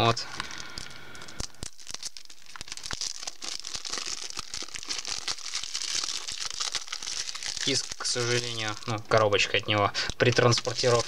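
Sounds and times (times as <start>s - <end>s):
plastic shrink-wrap crinkling: 0.2s - 11.0s.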